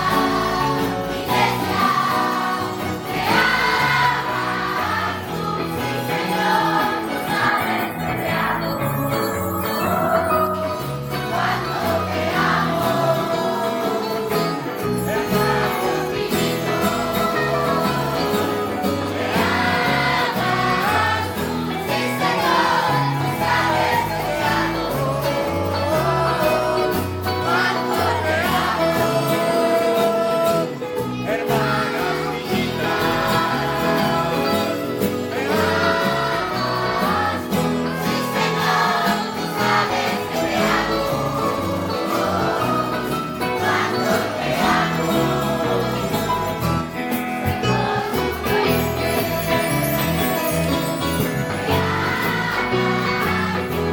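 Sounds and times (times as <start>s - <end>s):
children's choir singing gospel: 0.0s - 53.9s
instrumental accompaniment with beat: 0.0s - 53.9s.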